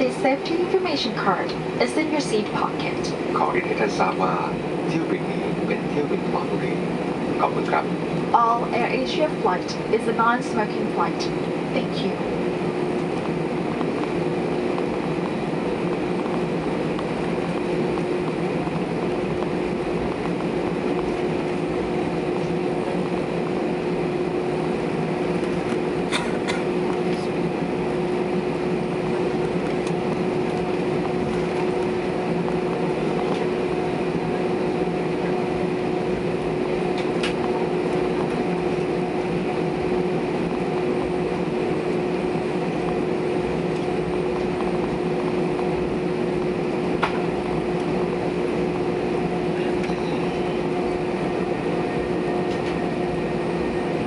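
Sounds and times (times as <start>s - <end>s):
aircraft cabin engine drone: 0.0s - 54.0s.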